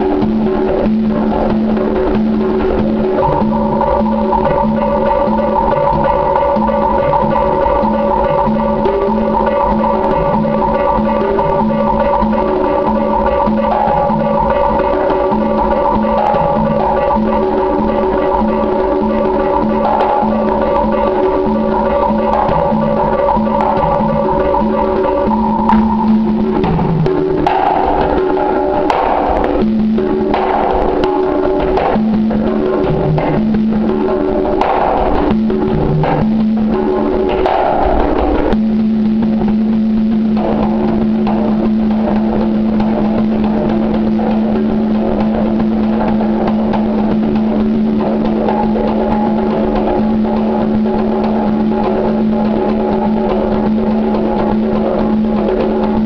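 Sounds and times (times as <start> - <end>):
conga drums played by hand: 0.0 - 56.0
pitched backing music: 0.0 - 56.0.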